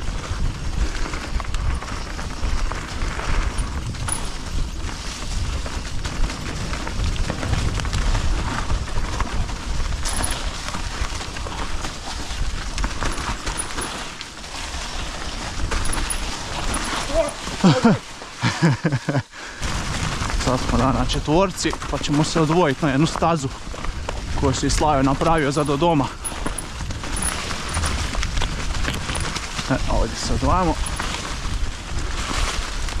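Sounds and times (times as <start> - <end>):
wind rumble on microphone: 0.0 - 19.0, 19.6 - 33.0
bike rattling: 0.0 - 33.0
bike tyre noise: 0.0 - 33.0.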